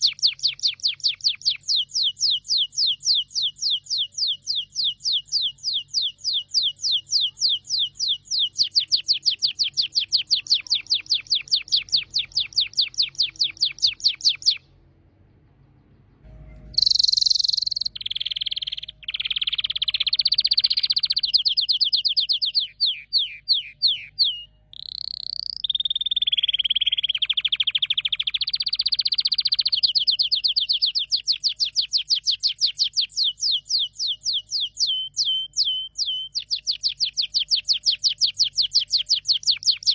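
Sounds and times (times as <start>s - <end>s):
canary singing: 0.0s - 14.8s, 16.3s - 39.9s.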